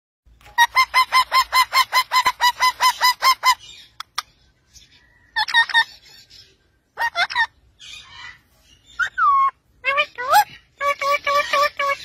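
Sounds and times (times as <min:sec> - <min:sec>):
parakeet calls: 0:00.4 - 0:04.4, 0:05.3 - 0:12.0.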